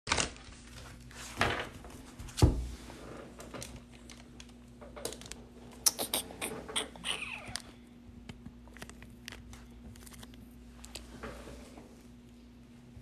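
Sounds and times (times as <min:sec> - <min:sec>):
faint steady hum: 0:00.4 - 0:13.0.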